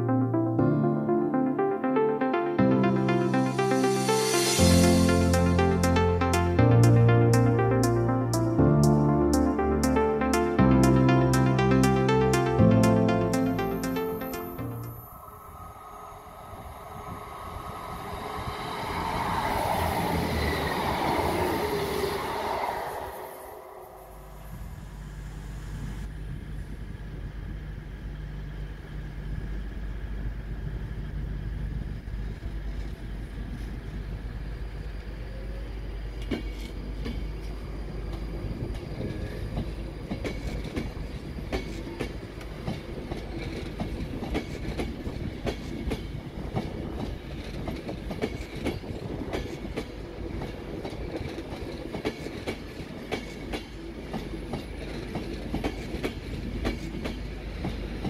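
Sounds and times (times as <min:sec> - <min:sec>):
train low hum: 0:00.0 - 0:58.0.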